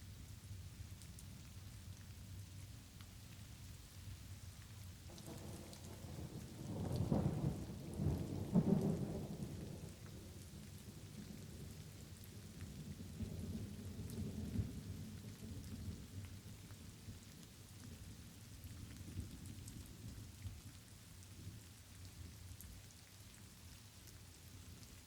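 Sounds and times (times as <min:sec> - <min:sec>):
light rain: 0:00.0 - 0:25.0.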